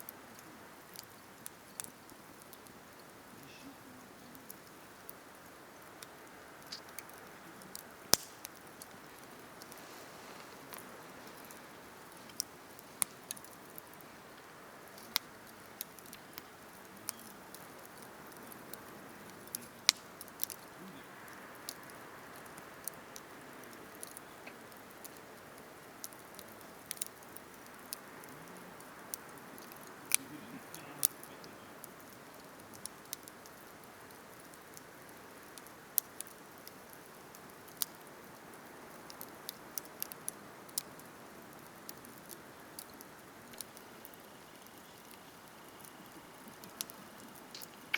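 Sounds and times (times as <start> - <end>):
soft hiss of flames: 0.0 - 47.9
wood crackling and popping: 0.0 - 47.9.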